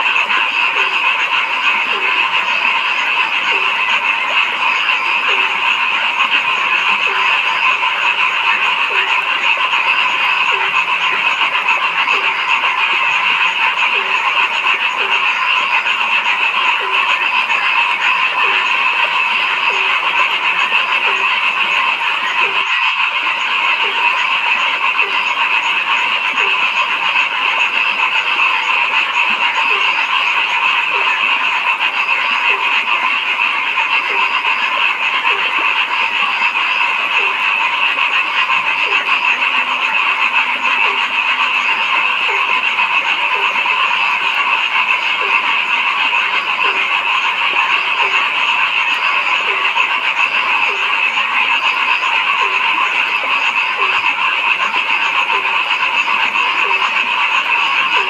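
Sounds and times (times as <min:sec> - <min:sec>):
frog chorus: 0:00.0 - 0:58.0
low frog croak: 0:00.0 - 0:58.0.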